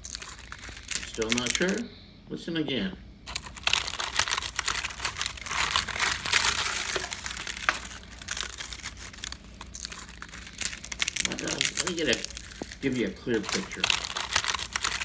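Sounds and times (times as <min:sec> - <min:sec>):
crackling and ticking in wood: 0:00.0 - 0:01.8, 0:03.3 - 0:15.0.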